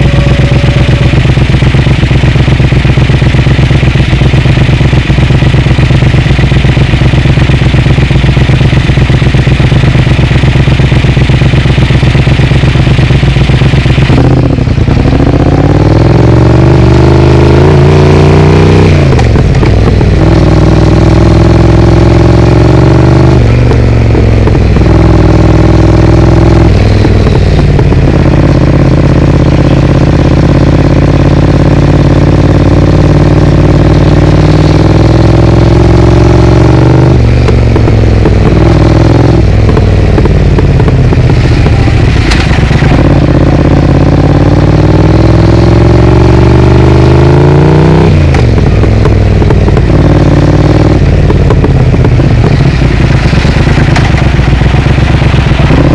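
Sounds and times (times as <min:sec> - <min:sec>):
gear changes: 0:00.0 - 0:55.9
motorcycle engine revving: 0:00.0 - 0:55.9.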